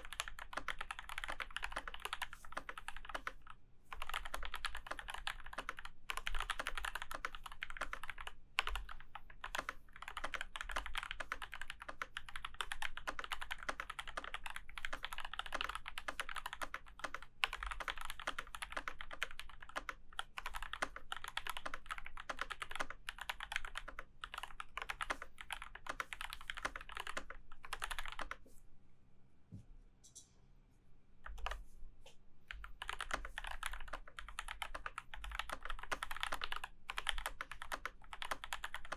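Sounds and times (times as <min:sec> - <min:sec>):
mechanical keyboard typing: 0:00.0 - 0:28.4, 0:32.5 - 0:38.9.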